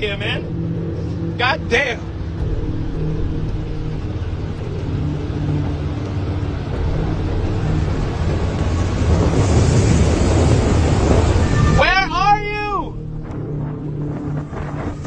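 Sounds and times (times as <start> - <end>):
boat motor humming: 0.0 - 15.0
rushing noise: 0.0 - 15.0.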